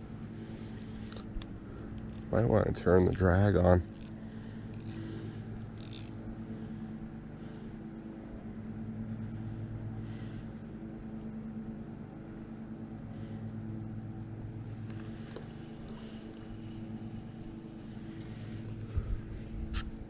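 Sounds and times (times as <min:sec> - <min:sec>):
motor humming: 0:00.0 - 0:11.4, 0:13.0 - 0:20.0.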